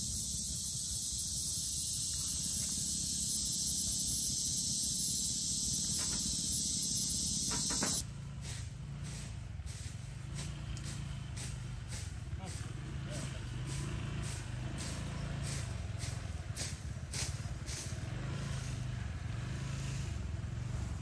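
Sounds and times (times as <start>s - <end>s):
cicadas buzzing: 0.0s - 8.1s, 9.0s - 20.3s
motor scooter engine humming: 0.0s - 21.0s.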